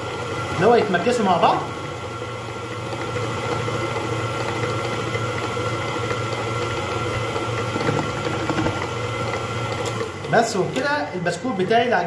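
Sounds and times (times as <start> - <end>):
electric mixer running: 0.0 - 12.0.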